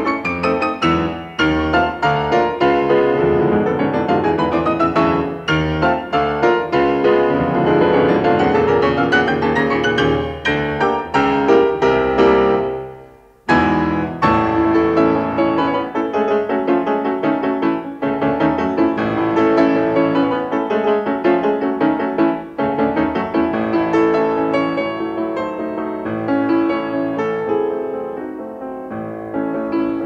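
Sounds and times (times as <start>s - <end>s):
piano chords and notes: 0.0s - 30.0s.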